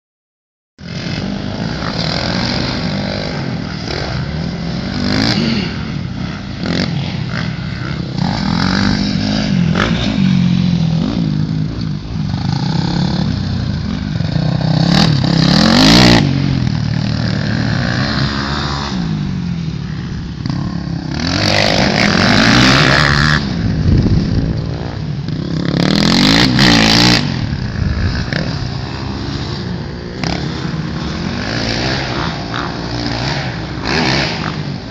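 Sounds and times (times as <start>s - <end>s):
dirt bikes revving: 0.8s - 34.9s.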